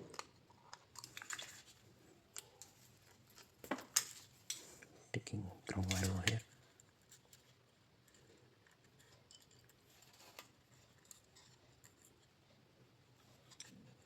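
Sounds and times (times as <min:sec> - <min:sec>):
faint clicks and scratches of wires: 0:00.0 - 0:14.0.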